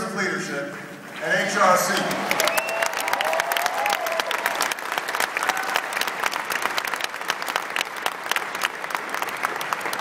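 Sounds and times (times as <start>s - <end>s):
large audience applauding: 0.7s - 10.0s.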